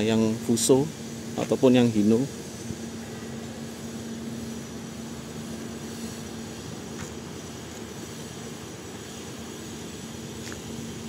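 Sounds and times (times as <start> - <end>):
low mechanical rumble and hum: 0.0 - 11.0.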